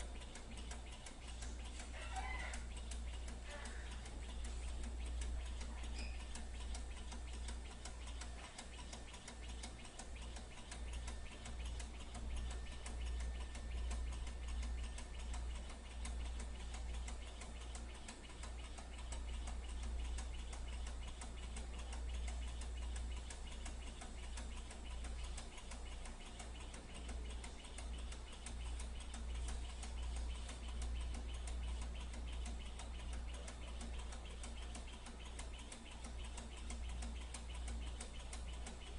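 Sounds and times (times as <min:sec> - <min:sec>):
engine mechanism ticking: 0:00.0 - 0:38.9.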